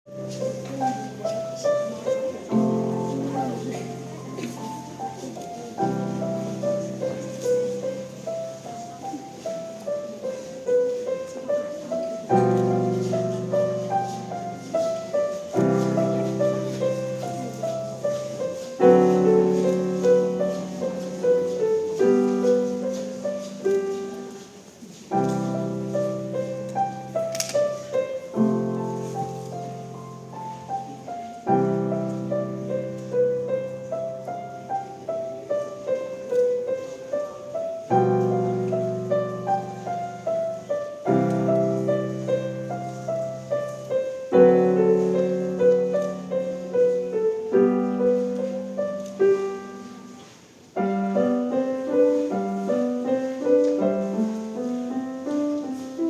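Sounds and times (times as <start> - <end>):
grand piano playing classical piece: 0.0 - 56.0.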